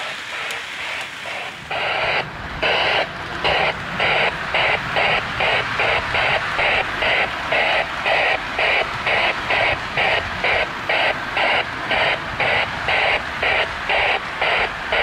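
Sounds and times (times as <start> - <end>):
model train chuffing: 0.0 - 15.0
steady running hum: 0.0 - 15.0.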